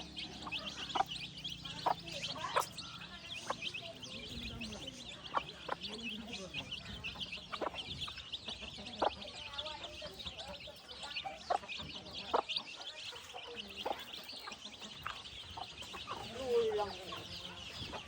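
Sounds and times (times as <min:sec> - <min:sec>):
chicks peeping: 0:00.0 - 0:18.0
loud clucks: 0:00.0 - 0:18.0.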